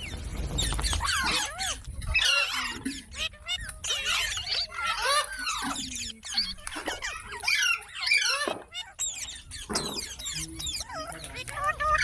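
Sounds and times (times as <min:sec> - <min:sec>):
parrot chattering: 0:01.0 - 0:12.0.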